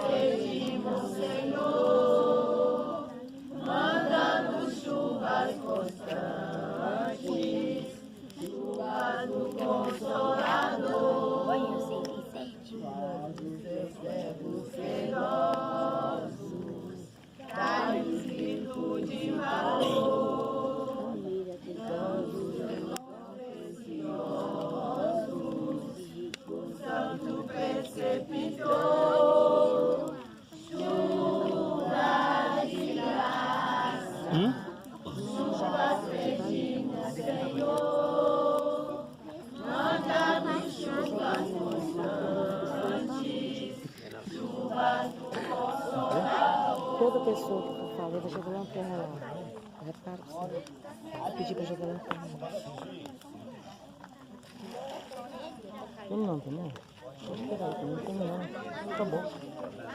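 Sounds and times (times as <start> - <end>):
group singing unaccompanied: 0.0 - 53.2, 57.2 - 59.9.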